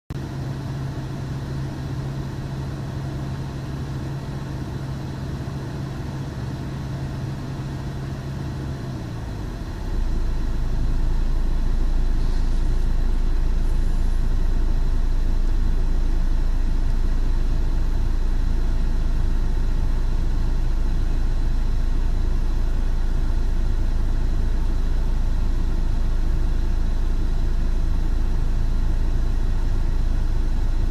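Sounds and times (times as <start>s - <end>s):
diesel engine idling: 0.2s - 30.9s.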